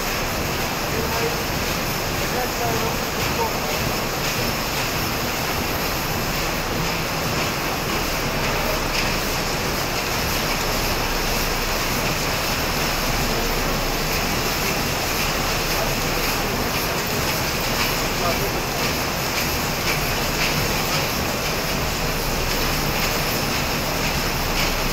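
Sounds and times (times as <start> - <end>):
factory machinery running: 0.0 - 24.9.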